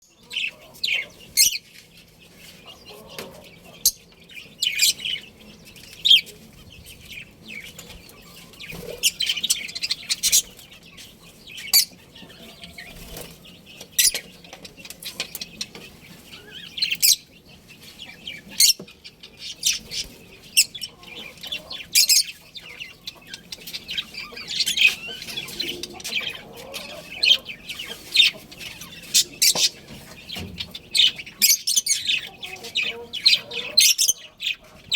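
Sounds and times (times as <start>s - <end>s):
budgerigars chirping: 0.1s - 1.7s, 2.4s - 34.9s.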